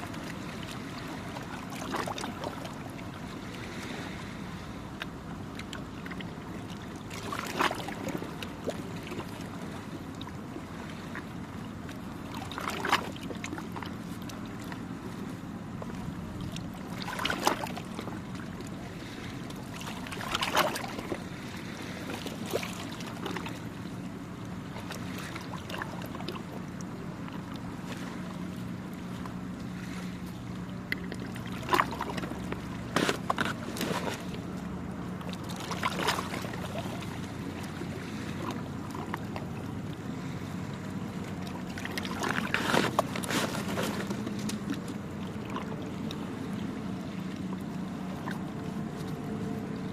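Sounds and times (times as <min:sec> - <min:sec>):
low engine hum: 0:00.0 - 0:49.9
small waves lapping on shore: 0:00.0 - 0:49.9.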